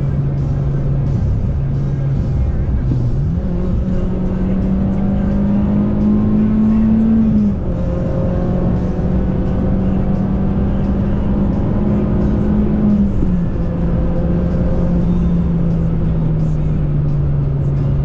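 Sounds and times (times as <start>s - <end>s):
car engine running under load: 0.0s - 18.0s.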